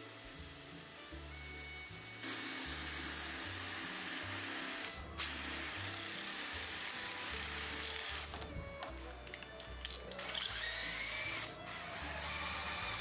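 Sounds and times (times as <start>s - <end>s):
cordless drill whining: 0.0s - 13.0s.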